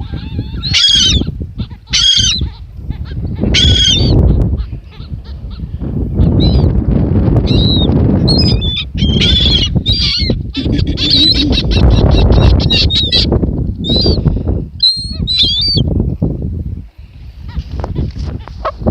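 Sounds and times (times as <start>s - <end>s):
birds calling: 0.0s - 6.8s, 7.4s - 15.9s.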